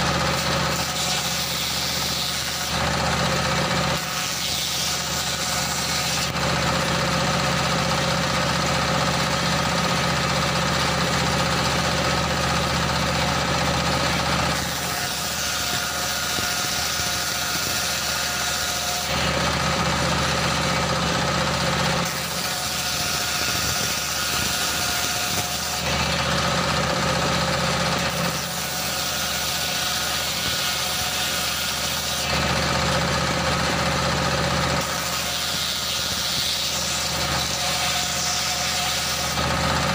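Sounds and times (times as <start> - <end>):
diesel engine running: 0.0 - 29.1, 31.8 - 39.9
circular saw ripping wood: 0.0 - 39.9.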